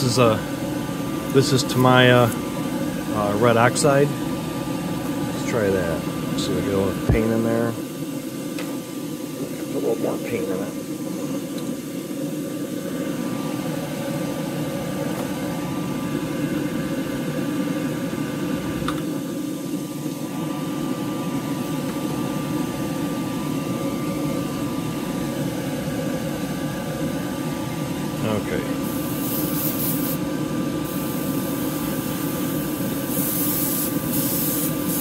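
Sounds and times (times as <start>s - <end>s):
exhaust fan humming: 0.0s - 35.0s.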